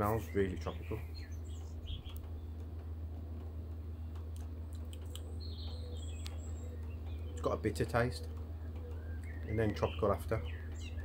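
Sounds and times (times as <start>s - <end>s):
low hum: 0.0s - 11.0s
faint ticks: 1.5s - 11.0s.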